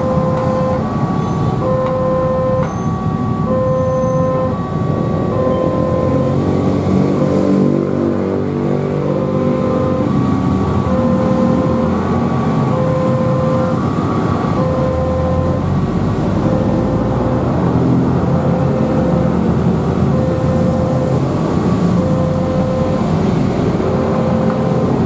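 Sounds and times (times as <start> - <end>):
level crossing alarm tone: 0.0 - 25.0
vehicle engines idling: 0.0 - 25.0.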